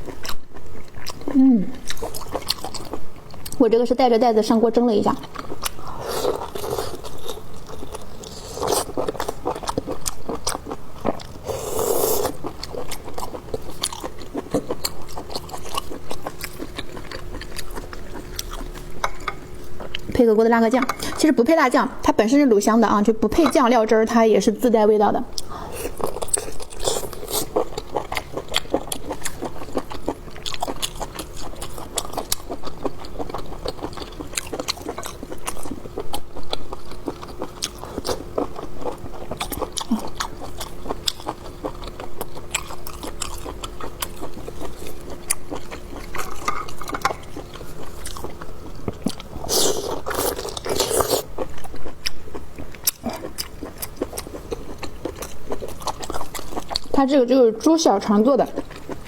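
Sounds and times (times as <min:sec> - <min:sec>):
chewing and biting sausage: 0:00.0 - 0:03.6, 0:05.2 - 0:19.0, 0:25.4 - 0:57.0, 0:58.5 - 0:59.0
faint steady hum: 0:00.0 - 0:59.0.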